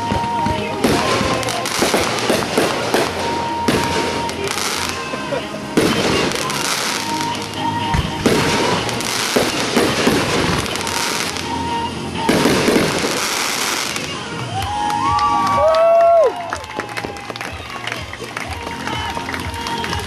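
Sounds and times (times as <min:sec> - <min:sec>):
fireworks crackling and bursting: 0:00.0 - 0:20.0.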